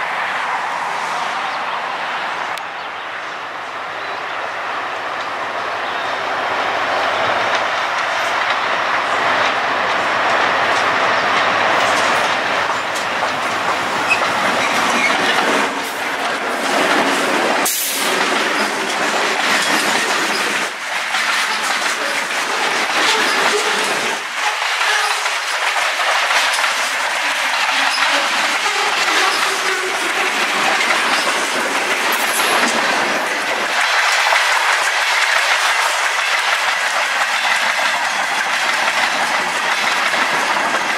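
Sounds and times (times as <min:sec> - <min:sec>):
diesel locomotives passing: 0:00.0 - 0:40.9
train wheels clickety-clack: 0:07.2 - 0:40.9.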